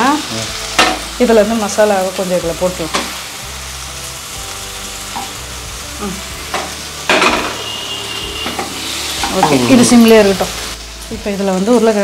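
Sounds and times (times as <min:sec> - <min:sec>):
spices sizzling in oil: 0:00.0 - 0:12.0.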